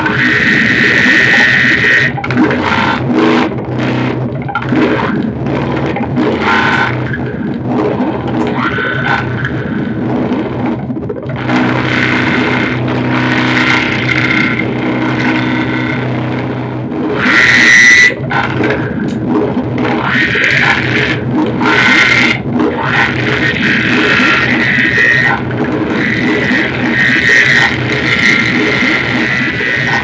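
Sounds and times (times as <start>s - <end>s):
low feedback drone hum: 0.0s - 30.0s.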